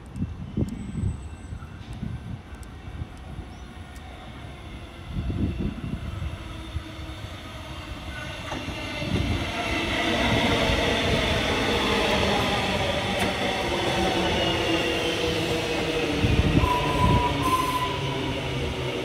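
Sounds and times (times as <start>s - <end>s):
electric train running on rails: 0.0s - 19.0s
train whine of steady tones: 0.0s - 19.0s.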